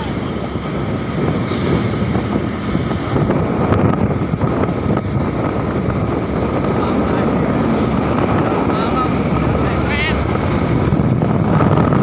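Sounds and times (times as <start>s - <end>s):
road and engine noise: 0.0s - 12.0s
wind buffeting microphone: 0.0s - 12.0s.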